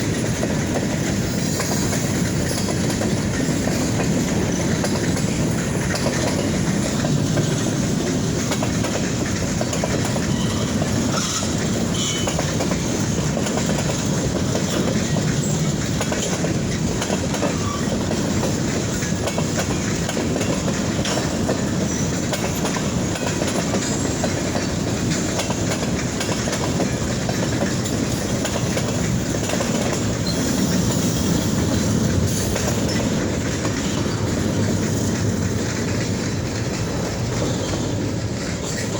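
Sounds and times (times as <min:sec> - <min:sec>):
train wheels rumbling on rail: 0:00.0 - 0:38.9
wheels clacking over rail joints: 0:00.0 - 0:38.9.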